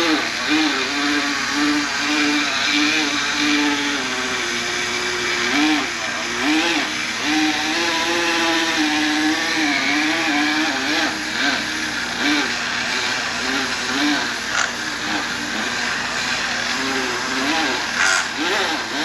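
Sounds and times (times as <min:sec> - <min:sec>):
electric power tool running: 0:00.0 - 0:19.0.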